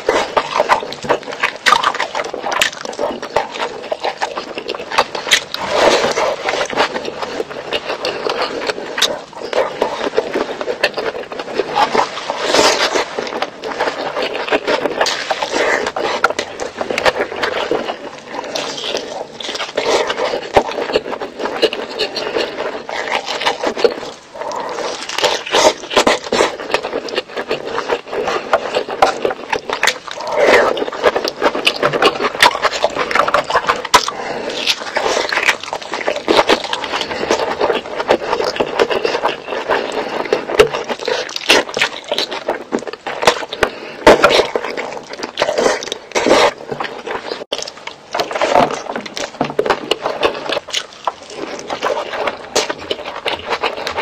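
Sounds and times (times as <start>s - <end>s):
wet chewing and lip smacking: 0.0s - 54.0s.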